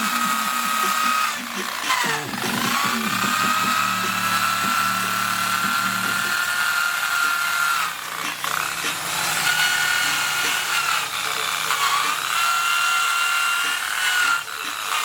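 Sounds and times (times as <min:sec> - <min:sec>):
power tool high whine: 0:00.0 - 0:15.0.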